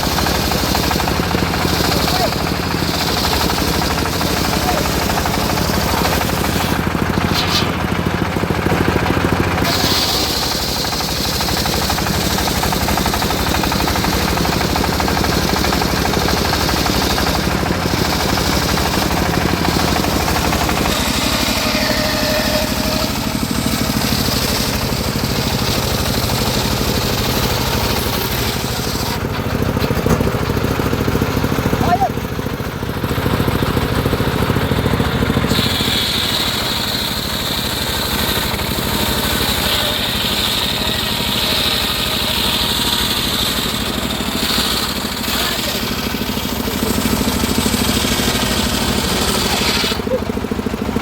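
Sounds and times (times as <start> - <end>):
circular sawmill cutting wood: 0.0 - 51.0.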